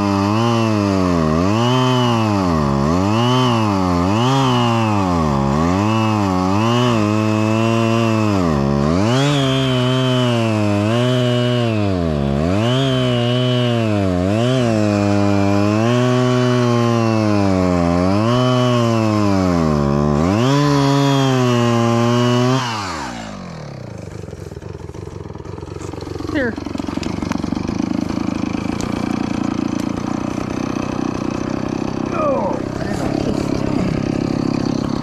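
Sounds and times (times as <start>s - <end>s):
chainsaw cutting log: 0.0s - 35.0s.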